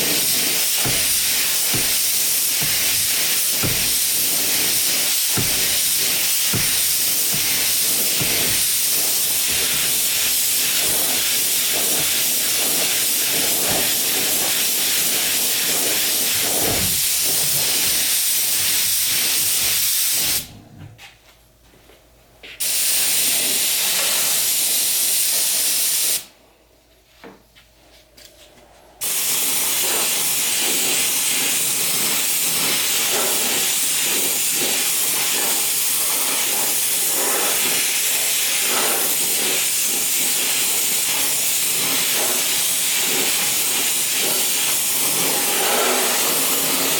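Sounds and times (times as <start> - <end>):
spray gun air hiss: 0.0 - 20.5, 29.0 - 46.9.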